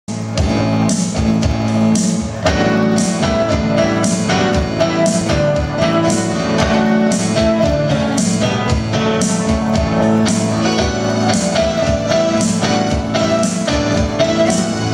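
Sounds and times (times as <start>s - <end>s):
live band playing: 0.1s - 14.9s.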